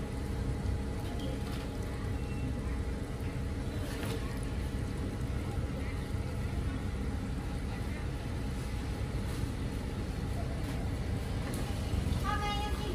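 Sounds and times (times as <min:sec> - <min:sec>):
faint voices: 0:00.1 - 0:12.9.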